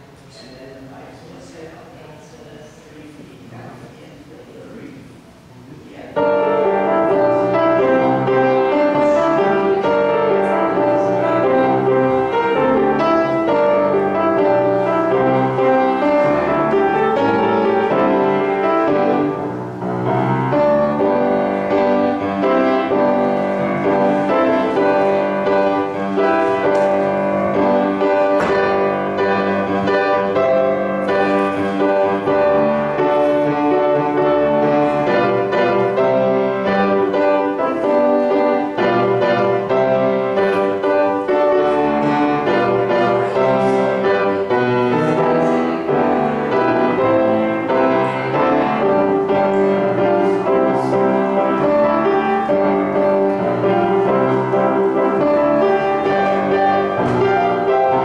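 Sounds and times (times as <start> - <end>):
keyboard music with held chords: 6.2 - 58.0.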